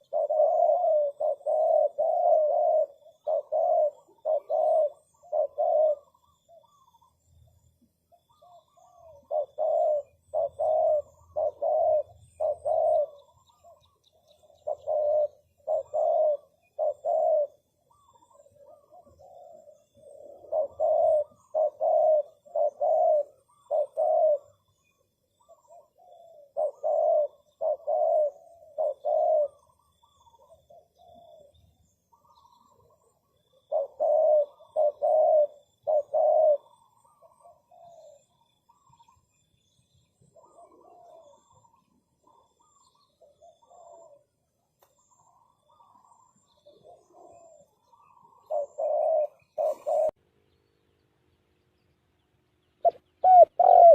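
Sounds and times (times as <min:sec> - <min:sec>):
dove cooing: 0:00.0 - 0:50.2, 0:52.8 - 0:53.9.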